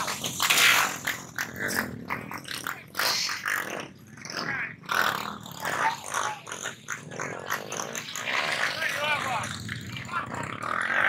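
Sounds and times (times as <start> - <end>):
small motorcycle engines revving: 0.0 - 11.0.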